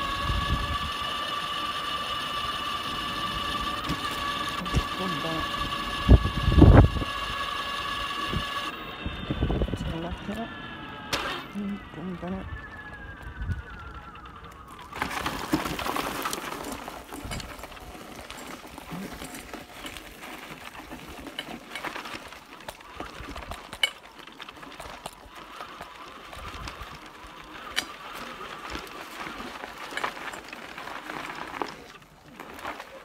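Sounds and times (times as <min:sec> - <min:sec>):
faint steady motor whine: 0:00.0 - 0:33.0
tyres crunching on gravel: 0:00.0 - 0:33.0.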